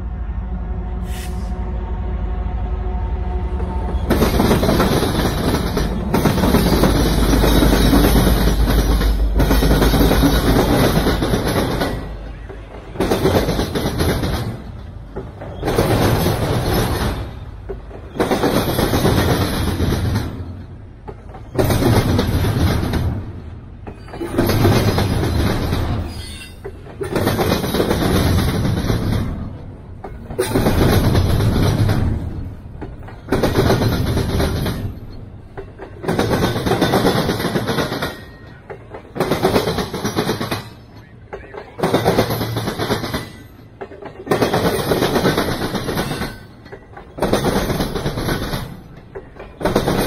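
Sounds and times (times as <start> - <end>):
diesel locomotive rumble: 0.0 - 50.0
train wheels clattering: 3.5 - 50.0.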